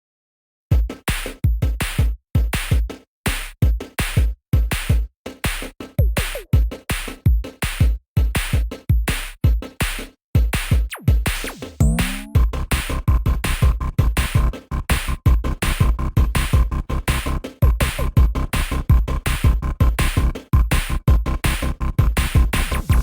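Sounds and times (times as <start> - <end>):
electronic music with drum machine beat: 0.7 - 23.0.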